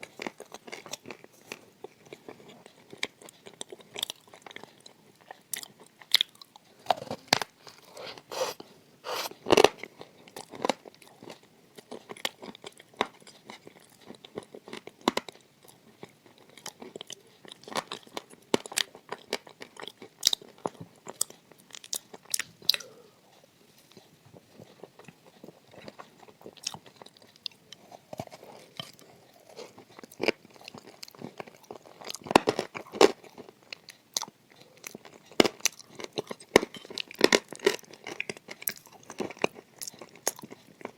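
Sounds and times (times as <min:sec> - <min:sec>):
crunchy clay chewing: 0:00.0 - 0:40.9.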